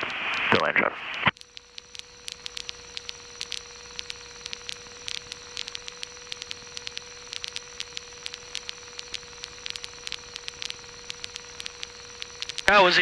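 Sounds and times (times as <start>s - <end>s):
radio audio hiss: 0.0s - 13.0s
static crackling clicks: 0.0s - 13.0s
faint steady tone: 1.3s - 13.0s.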